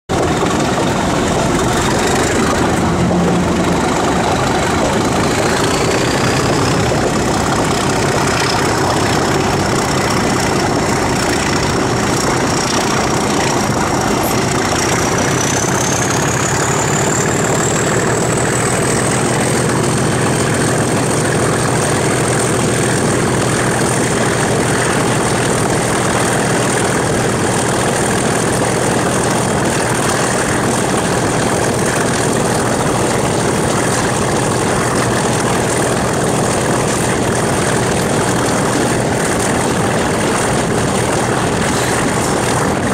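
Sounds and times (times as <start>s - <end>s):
diesel locomotive engine working hard: 0.0s - 42.9s.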